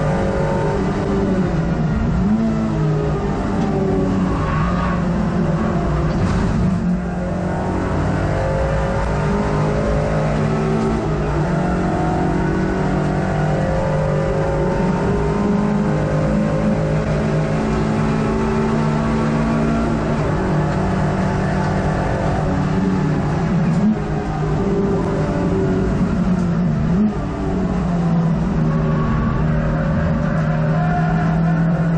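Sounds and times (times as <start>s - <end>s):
race car engine running hard: 0.0s - 31.9s.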